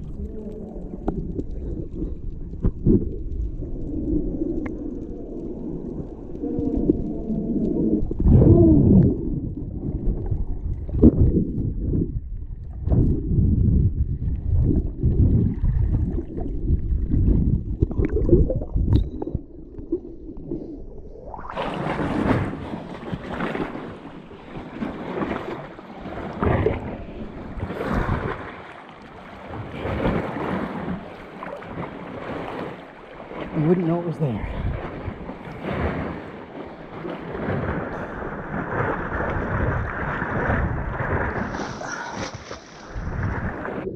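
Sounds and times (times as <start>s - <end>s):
wind on microphone: 0.0s - 28.8s, 29.4s - 33.6s, 34.2s - 43.9s
underwater rumbling and sloshing: 0.0s - 43.9s
water splashing and lapping: 0.0s - 43.9s.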